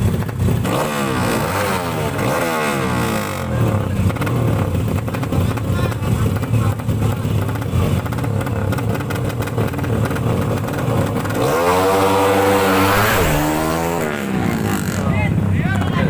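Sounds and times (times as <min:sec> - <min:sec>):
motorcycle engine revving: 0:00.0 - 0:15.2
motorcycle engines rumbling: 0:00.0 - 0:16.0.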